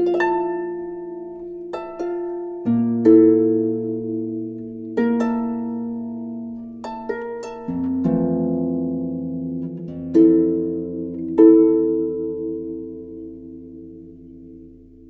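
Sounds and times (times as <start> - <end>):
slow plucked chords: 0.0 - 15.0.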